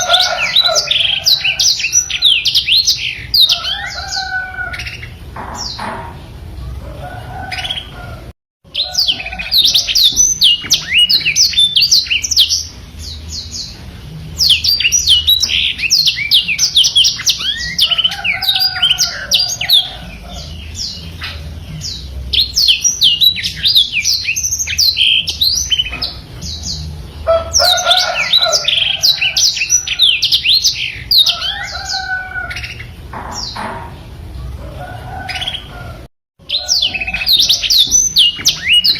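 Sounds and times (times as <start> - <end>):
canary singing twittering runs: 0.0 - 38.9.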